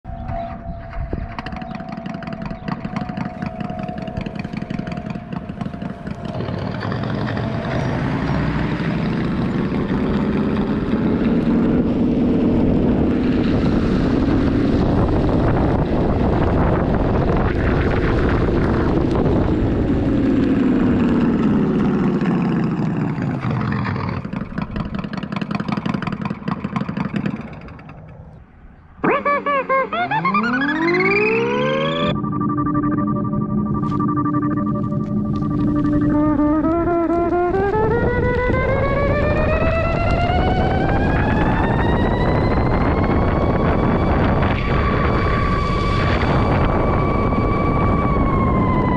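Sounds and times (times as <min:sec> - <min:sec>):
synthetic motorcycle engine sound: 0:00.1 - 0:48.9.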